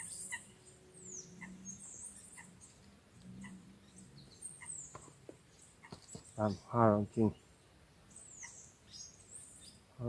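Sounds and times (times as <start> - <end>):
bird trills: 0.0 - 9.9.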